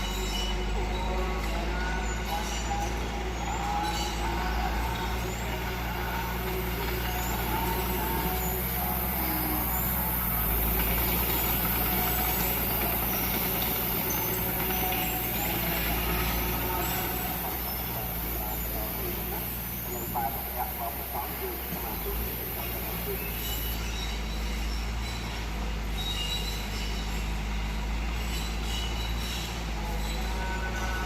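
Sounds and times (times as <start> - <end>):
diesel earthmoving machinery running: 0.0 - 31.0.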